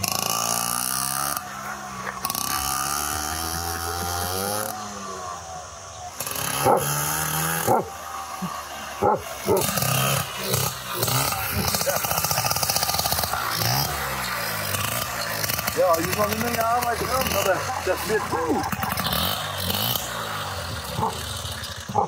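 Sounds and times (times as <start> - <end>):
moped engine running: 0.0 - 22.0.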